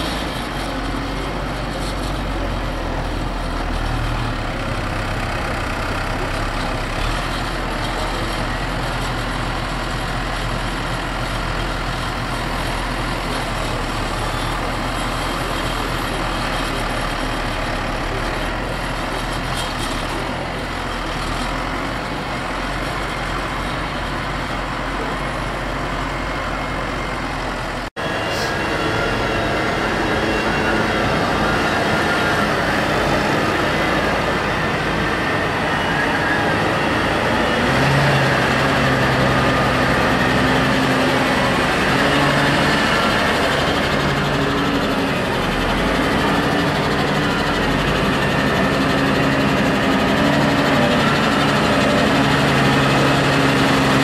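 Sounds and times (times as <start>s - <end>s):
tractor diesel engines running: 0.0s - 54.0s
tractor engine close by: 0.0s - 54.0s.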